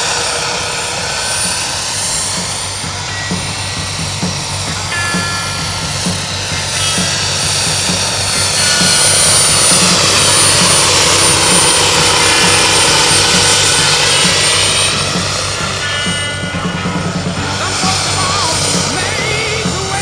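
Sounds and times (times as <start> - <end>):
model helicopter turbine whine: 0.0 - 20.0
rotor and engine hiss: 0.0 - 20.0.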